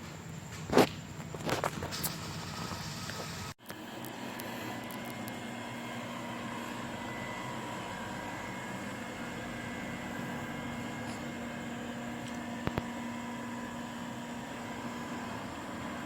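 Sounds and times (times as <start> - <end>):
robot vacuum cleaner running: 1.8 - 16.0.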